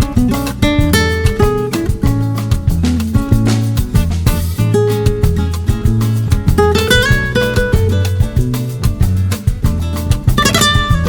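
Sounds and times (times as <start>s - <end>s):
upbeat acoustic guitar music: 0.0s - 11.0s.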